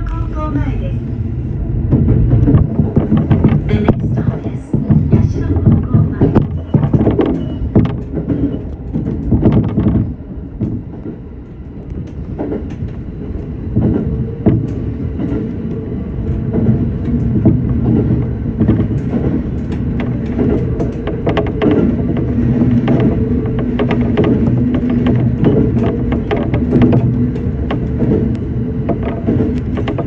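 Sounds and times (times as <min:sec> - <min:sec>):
train rumbling: 0:00.0 - 0:30.0
wheels clacking over rails: 0:01.8 - 0:30.0.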